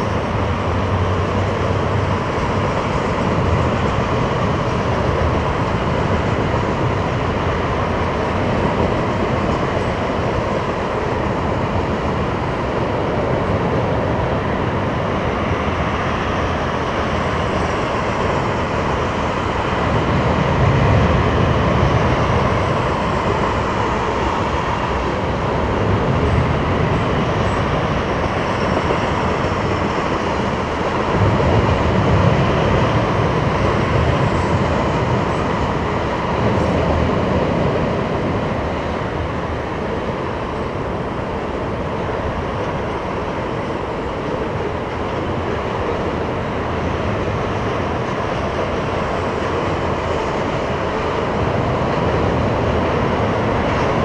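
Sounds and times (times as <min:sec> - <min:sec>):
train wheels rolling on rail: 0:00.0 - 0:54.0.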